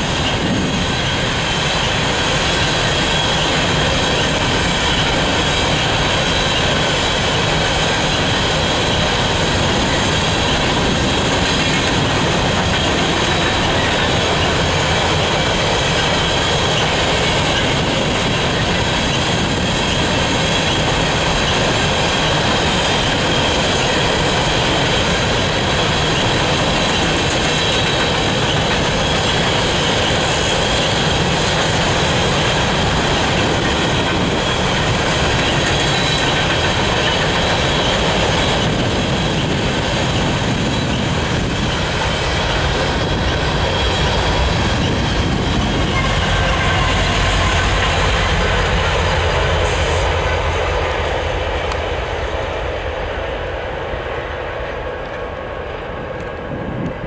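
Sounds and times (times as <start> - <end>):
freight train wheels rumbling and rattling: 0.0 - 57.0.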